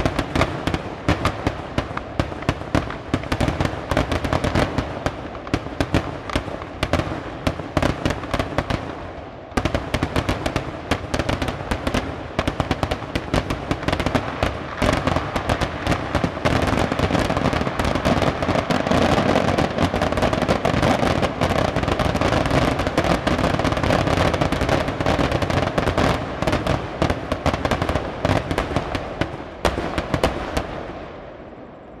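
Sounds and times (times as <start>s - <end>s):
firecrackers bursting: 0.0s - 31.7s.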